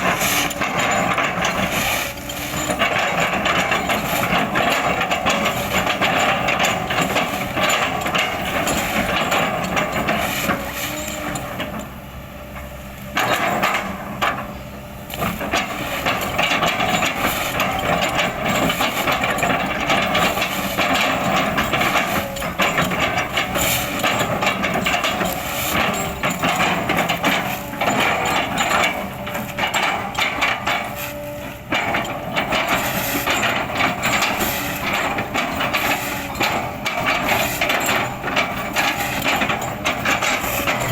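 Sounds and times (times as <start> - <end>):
excavator engine under load: 0.0 - 40.9.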